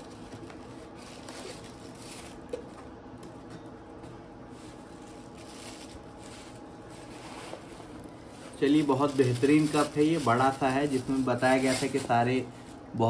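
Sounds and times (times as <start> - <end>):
paper rustling and crinkling: 0.0 - 2.8, 4.5 - 12.8.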